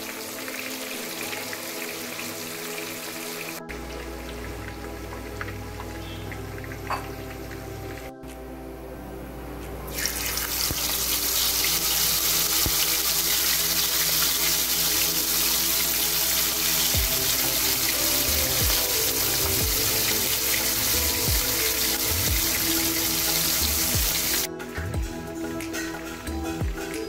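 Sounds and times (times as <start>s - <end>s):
hot oil sizzling: 0.0s - 8.1s, 9.9s - 24.5s.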